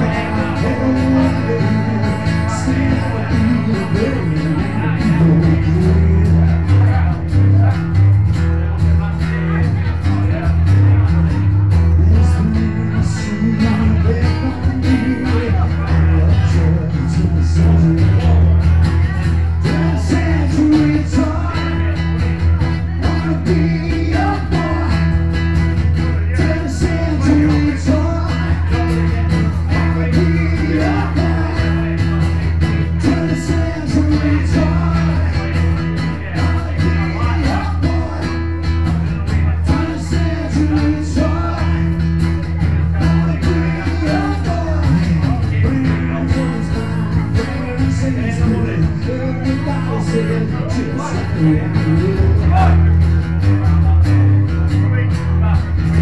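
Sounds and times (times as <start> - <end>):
person singing: 0.0 - 7.8, 11.8 - 25.3, 26.1 - 52.9
strummed acoustic guitar: 0.0 - 56.0.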